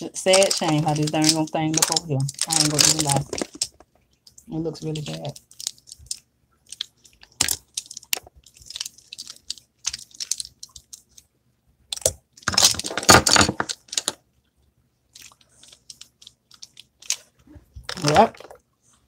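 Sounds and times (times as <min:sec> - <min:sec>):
small objects crinkling and rustling: 0:00.0 - 0:11.3, 0:11.9 - 0:14.2, 0:15.1 - 0:18.7.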